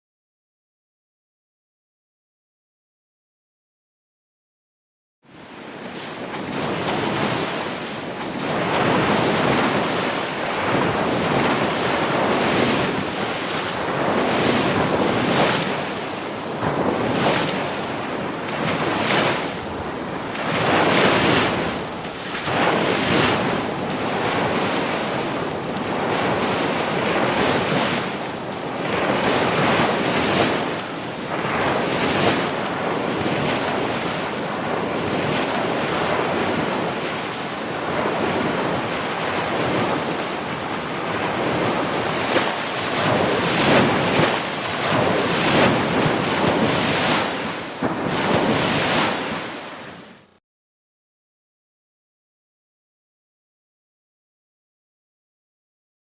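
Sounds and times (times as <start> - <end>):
wind noise on microphone: 5.3 - 50.3
ocean waves breaking: 5.3 - 50.4.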